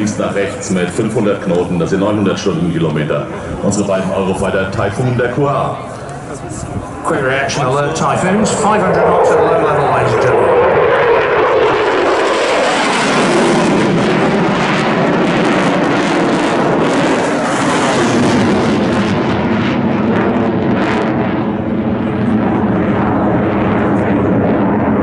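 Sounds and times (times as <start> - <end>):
jet aircraft roaring past: 0.0 - 25.0.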